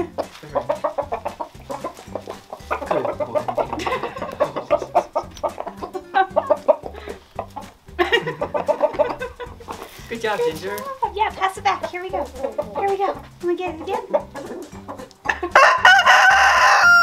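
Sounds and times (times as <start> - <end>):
roosters clucking: 0.0 - 17.0.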